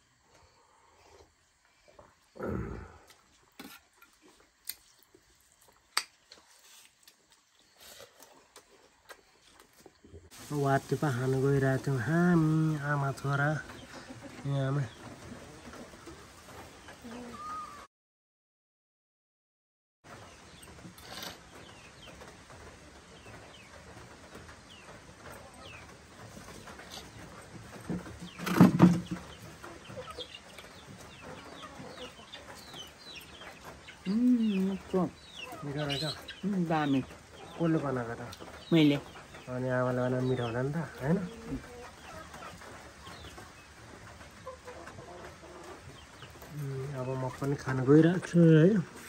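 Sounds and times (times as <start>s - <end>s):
birds chirping: 0.0s - 17.9s, 20.1s - 49.0s.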